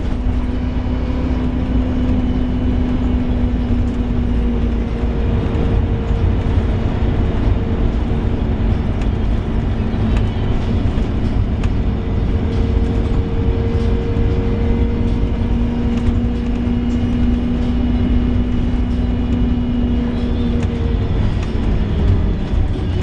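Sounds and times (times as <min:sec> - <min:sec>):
bus engine and road rumble: 0:00.0 - 0:23.0
steady groaning tone: 0:00.0 - 0:23.0.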